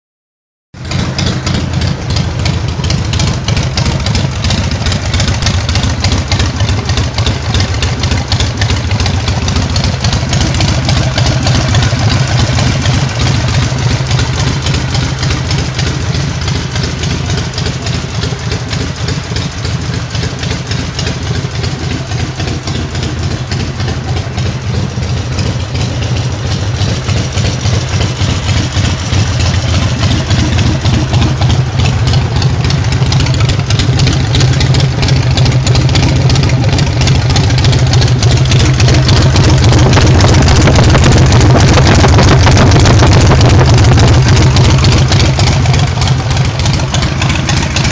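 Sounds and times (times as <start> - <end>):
motorcycle engine idling: 0.8 - 47.9.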